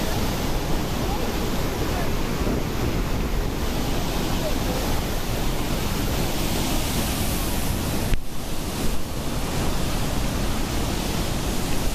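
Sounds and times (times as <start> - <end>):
floodwater rushing through spillway: 0.0 - 11.9.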